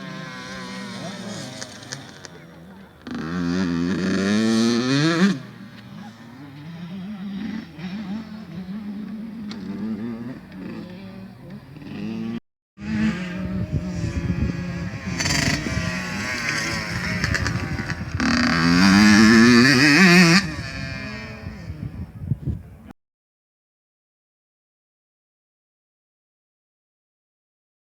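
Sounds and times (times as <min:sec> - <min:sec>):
two-stroke motocross bike engines: 0:00.0 - 0:22.9.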